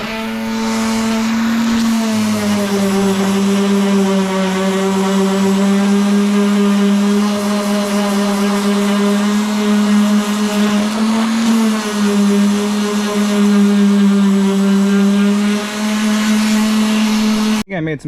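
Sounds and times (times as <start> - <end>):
electric sander on wood: 0.0 - 17.7.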